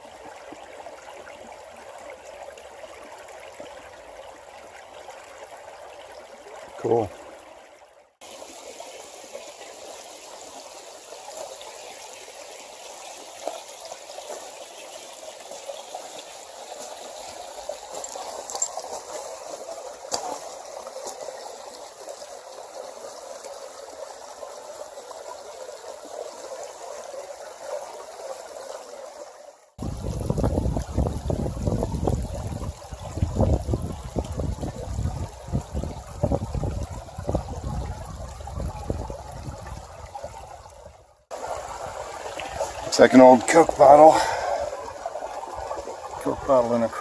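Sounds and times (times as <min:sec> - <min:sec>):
creek water trickling: 0:00.0 - 0:47.0.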